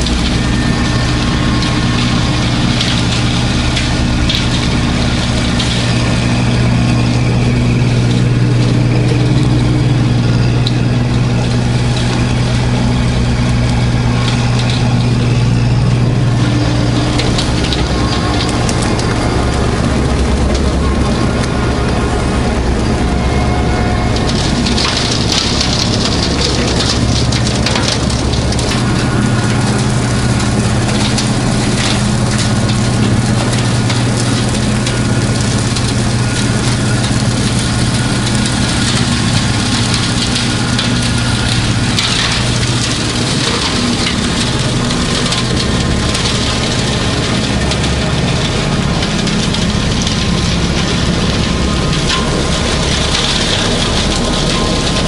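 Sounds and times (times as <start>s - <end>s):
diesel tractor engine running: 0.0s - 55.0s
rotary cutter shredding brush: 0.0s - 55.0s.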